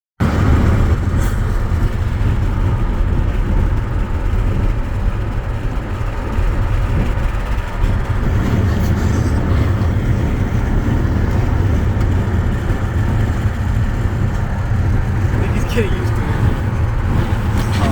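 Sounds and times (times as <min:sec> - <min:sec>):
road noise: 0:00.2 - 0:17.9
wind buffeting microphone: 0:00.2 - 0:17.9.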